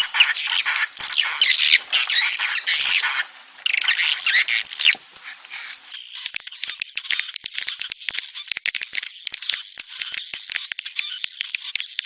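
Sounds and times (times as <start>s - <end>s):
swiftlets twittering: 0.0s - 12.0s.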